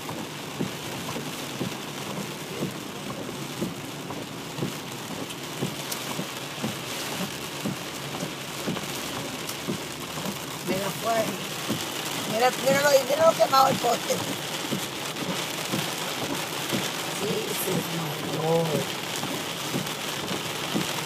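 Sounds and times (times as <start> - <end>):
heavy rain on a car: 0.0 - 21.0.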